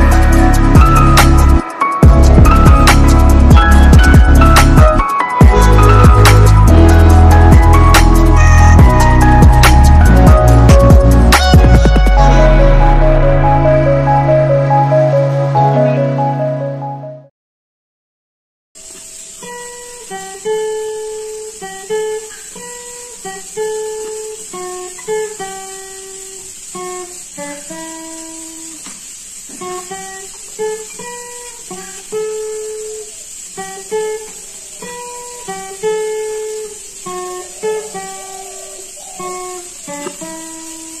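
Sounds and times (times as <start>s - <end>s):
high-pitched hiss: 0.0s - 14.9s, 18.8s - 41.0s
fingerpicked acoustic guitar: 0.0s - 16.8s, 19.0s - 41.0s.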